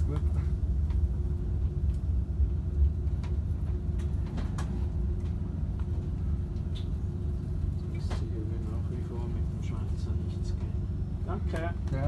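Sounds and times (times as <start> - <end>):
faint constant hum: 0.0 - 12.0
traffic rumble: 0.0 - 12.0.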